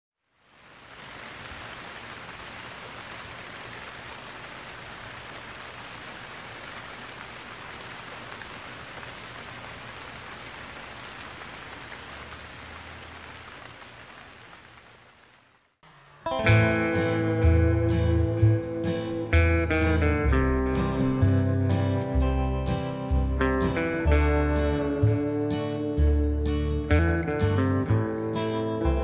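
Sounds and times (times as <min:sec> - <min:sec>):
steady rain falling: 0:00.2 - 0:15.8, 0:16.5 - 0:29.0.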